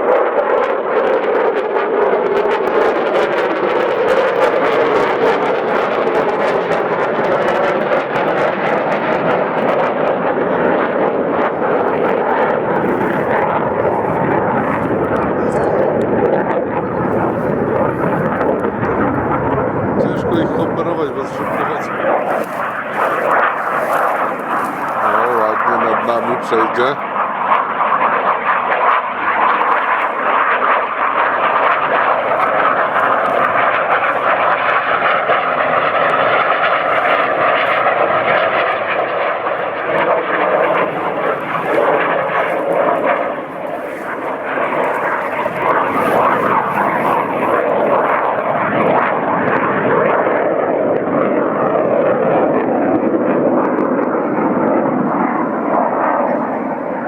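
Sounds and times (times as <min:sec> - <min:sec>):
airplane passing overhead: 0:00.0 - 0:57.0.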